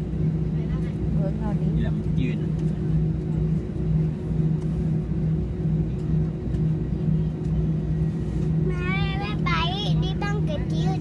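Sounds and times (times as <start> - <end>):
jet engine cabin drone: 0.0 - 11.0.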